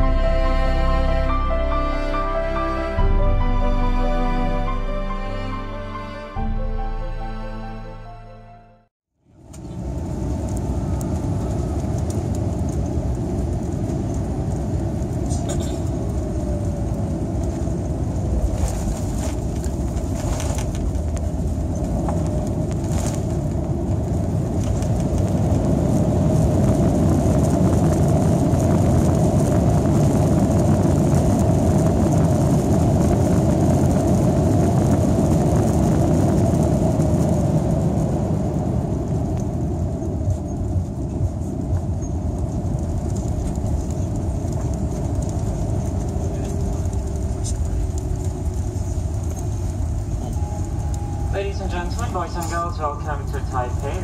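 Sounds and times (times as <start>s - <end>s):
jet engine roar with whine: 9.3s - 54.0s.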